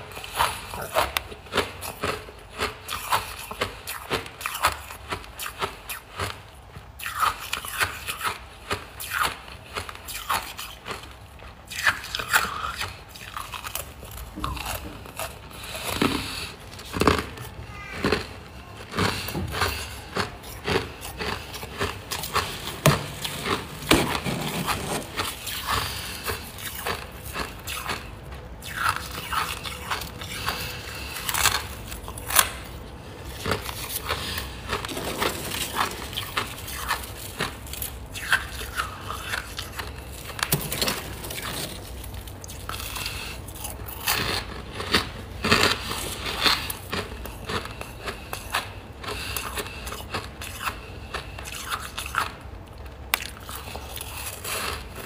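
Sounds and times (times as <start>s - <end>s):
frost being chewed crunching: 0.0s - 55.0s.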